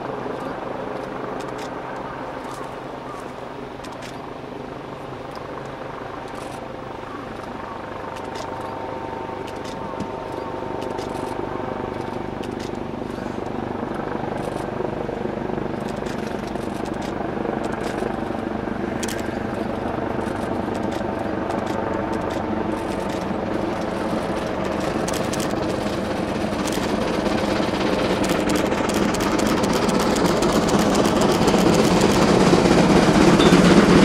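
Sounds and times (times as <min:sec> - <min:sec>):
helicopter drone overhead: 0:00.0 - 0:34.0
steam locomotive exhaust beats: 0:06.1 - 0:34.0.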